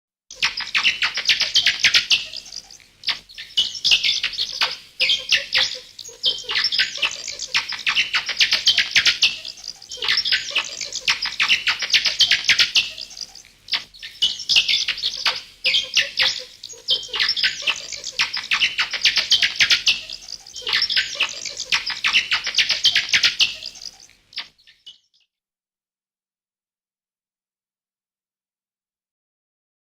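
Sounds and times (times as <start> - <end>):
bats chittering: 0.3 - 24.8.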